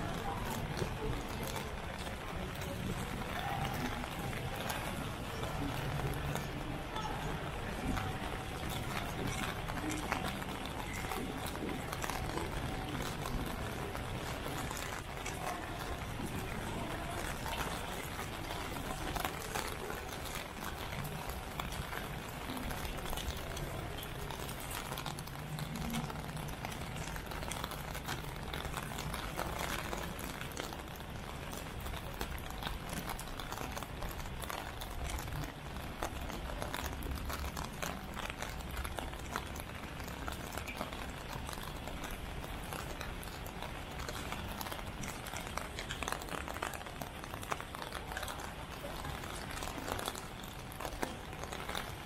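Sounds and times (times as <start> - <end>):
rain pattering: 0.0 - 52.0
wet city street ambience: 0.0 - 52.0.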